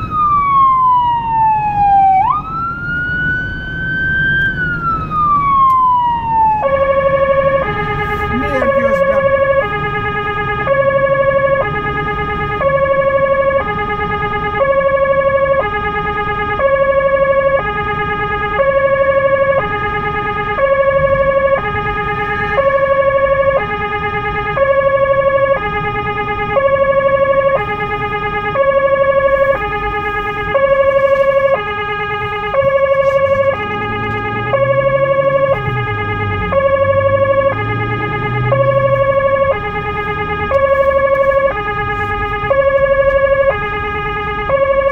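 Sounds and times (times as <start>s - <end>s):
two-tone siren: 0.0s - 44.9s.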